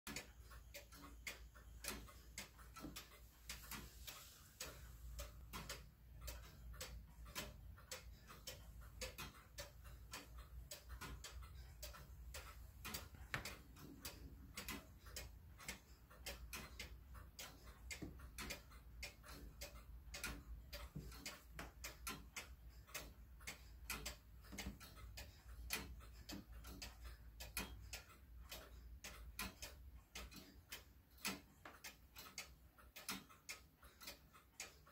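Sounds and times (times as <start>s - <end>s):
clock ticking: 0.1s - 34.9s.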